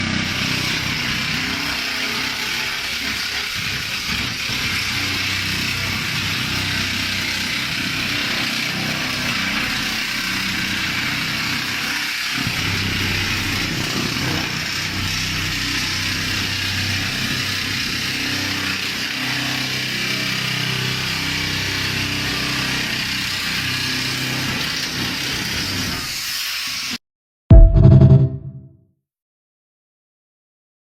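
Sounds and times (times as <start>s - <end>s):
small engine running: 0.0s - 25.8s.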